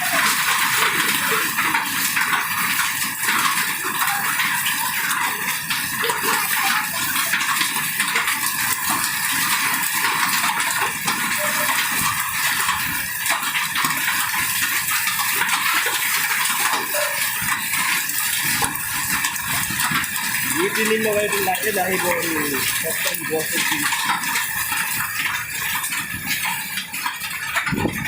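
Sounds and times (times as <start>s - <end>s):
hail and heavy rain pelting: 0.0s - 28.0s.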